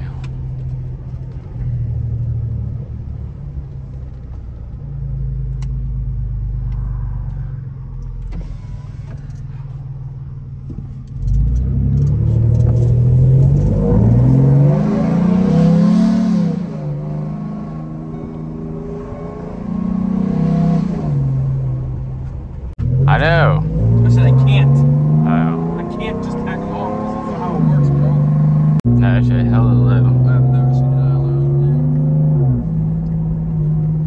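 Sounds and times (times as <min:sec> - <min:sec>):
pickup truck engine: 0:00.0 - 0:34.0
road noise: 0:00.0 - 0:34.0.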